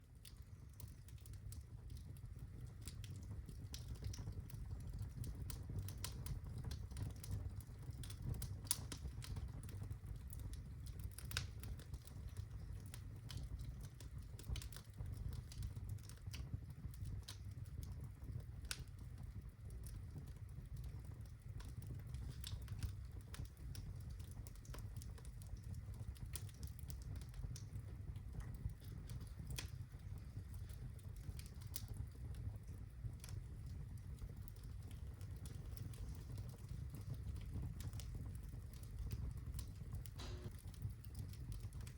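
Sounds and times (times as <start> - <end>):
logs crackling in fireplace: 0.0 - 41.9.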